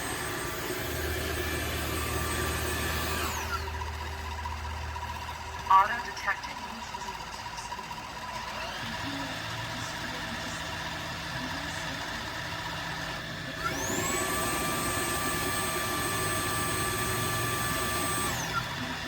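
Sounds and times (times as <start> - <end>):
machine hum: 0.0 - 19.0
vacuum suction motor whine: 0.0 - 19.0.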